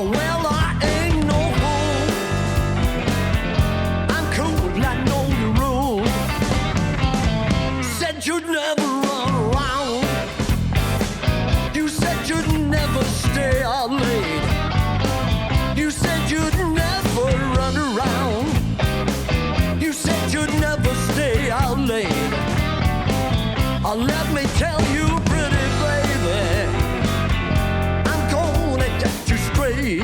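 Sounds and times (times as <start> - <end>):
bass guitar: 0.0 - 8.5, 9.1 - 30.0
wavering lead guitar line: 0.0 - 8.5, 9.1 - 30.0
blues band playing live: 0.0 - 30.0
drums: 0.0 - 30.0.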